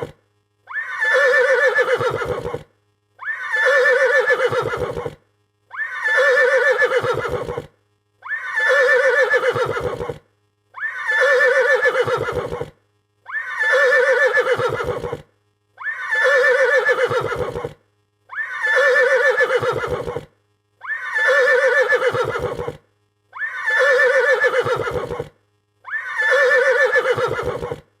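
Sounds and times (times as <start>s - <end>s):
horse neighing: 0.7s - 2.6s, 3.2s - 10.2s, 10.8s - 12.7s, 13.3s - 15.2s, 15.8s - 22.8s, 23.4s - 25.3s, 25.9s - 27.8s.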